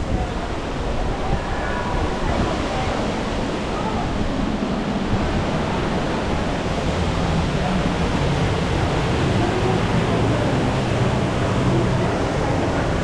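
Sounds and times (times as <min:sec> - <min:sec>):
murmur of crowd voices: 0:00.0 - 0:13.0
steady rushing noise: 0:00.0 - 0:13.0.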